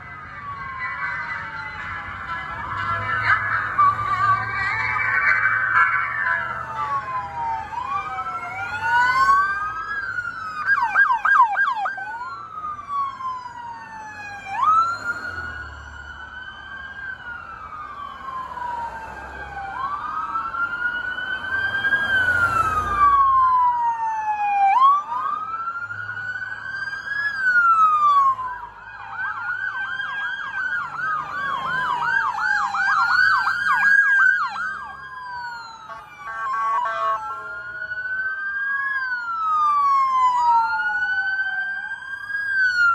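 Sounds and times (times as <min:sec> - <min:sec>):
passing vehicles rumbling: 0:00.0 - 0:42.9
police sirens wailing and yelping: 0:00.0 - 0:42.9.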